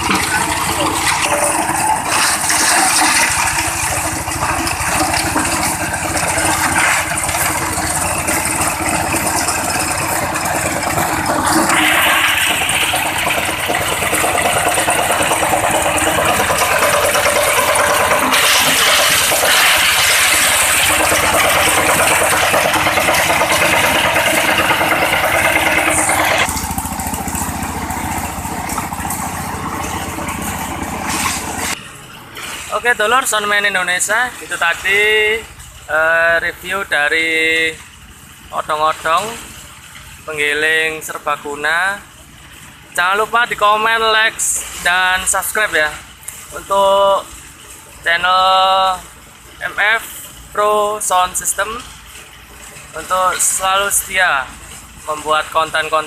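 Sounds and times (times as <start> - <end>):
diesel engine and grinding machine: 0.0 - 56.0.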